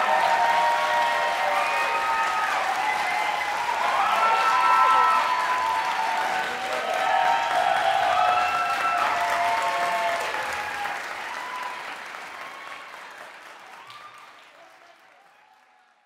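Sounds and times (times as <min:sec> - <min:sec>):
audience applauding: 0:00.0 - 0:16.0
high cheers: 0:00.0 - 0:16.0.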